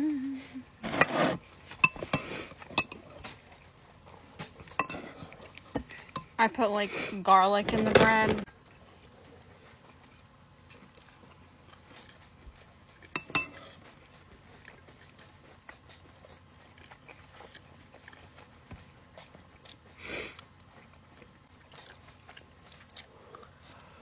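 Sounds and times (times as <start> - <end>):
chewing and biting bread: 1.4 - 6.3, 8.5 - 24.0.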